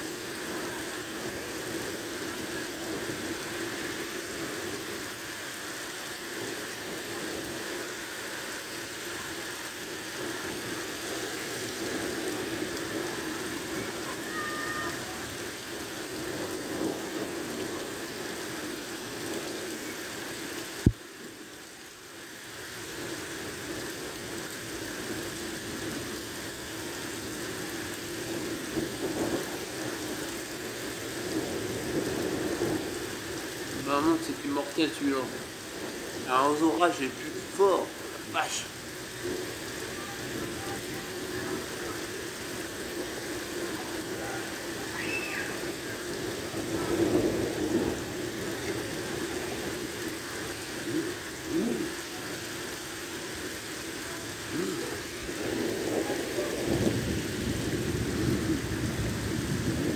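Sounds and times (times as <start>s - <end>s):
heavy rain pouring on street: 0.0s - 59.9s.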